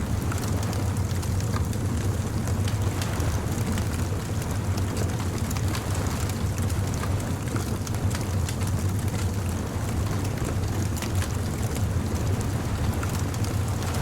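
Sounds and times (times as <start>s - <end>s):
bonfire crackling and popping: 0.0s - 14.0s
low steady rumble: 0.0s - 14.0s.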